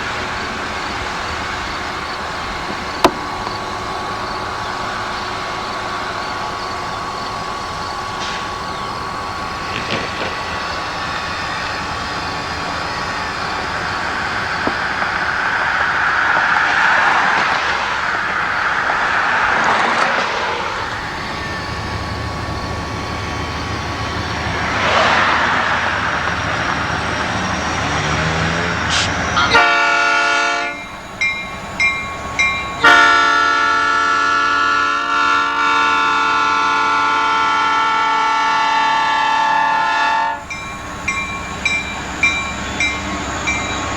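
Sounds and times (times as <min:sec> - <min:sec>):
locomotive air horn blasts: 0:00.0 - 0:17.6, 0:18.2 - 0:43.9
diesel locomotive rumble: 0:00.0 - 0:43.9.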